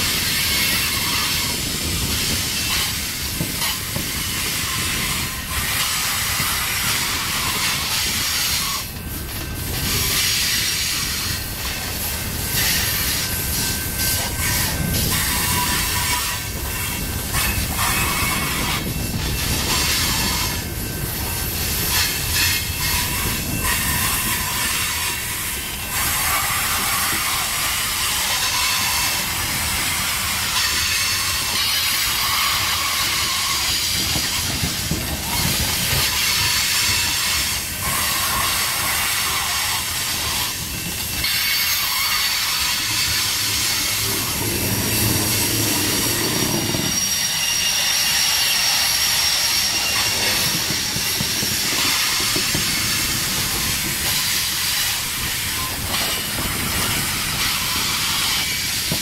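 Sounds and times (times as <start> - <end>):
freight train wheels rushing: 0.0 - 59.0
hiss: 0.0 - 59.0.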